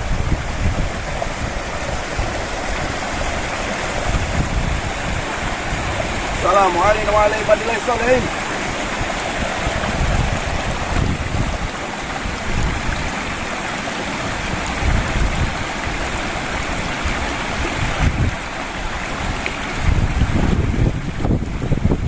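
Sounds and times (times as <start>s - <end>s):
stream rushing over rocks: 0.0s - 22.0s
wind buffeting microphone: 0.0s - 22.0s.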